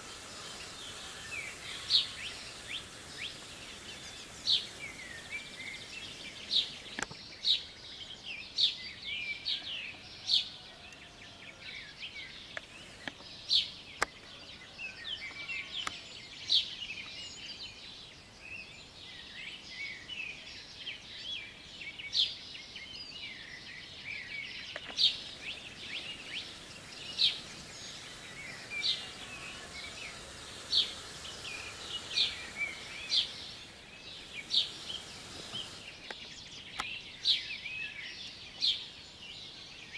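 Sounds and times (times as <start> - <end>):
background hiss: 0.0 - 39.9
songbirds chirping: 0.0 - 39.9.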